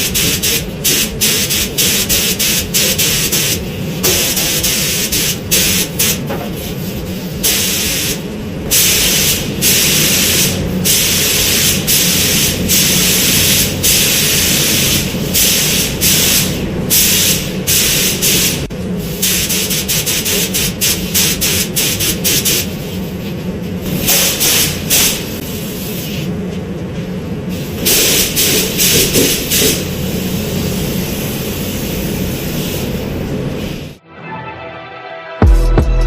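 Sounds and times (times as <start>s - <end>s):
paint spray gun hissing: 0.0s - 23.0s, 27.6s - 33.9s
steady low hum: 0.0s - 34.0s.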